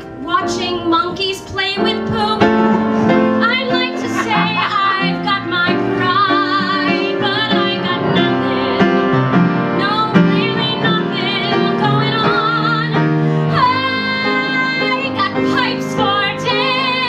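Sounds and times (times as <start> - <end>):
piano chords: 0.0 - 17.0
woman singing with vibrato: 0.2 - 17.0.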